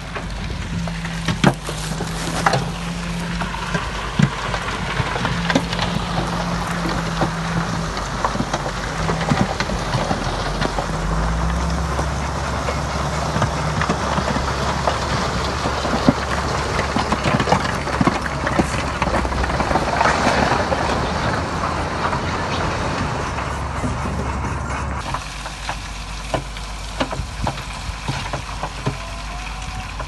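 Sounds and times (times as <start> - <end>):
diesel engine running: 0.0 - 30.0
rocks clanking and crunching: 0.0 - 30.0.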